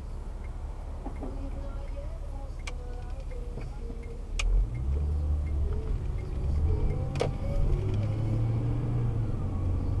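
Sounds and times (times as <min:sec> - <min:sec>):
car engine and road hum: 0:00.0 - 0:10.0.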